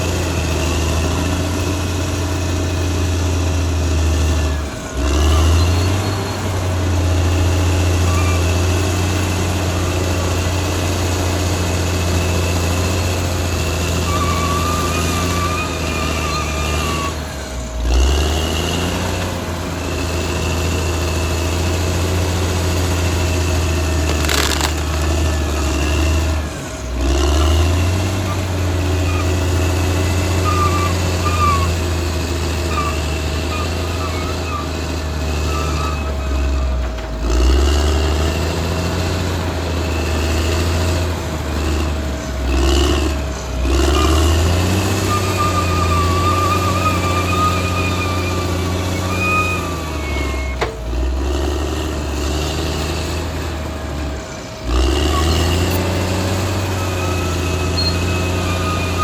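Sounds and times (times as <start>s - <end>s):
bulldozer diesel engine running: 0.0s - 59.0s
wavering high squeaks: 0.0s - 59.0s.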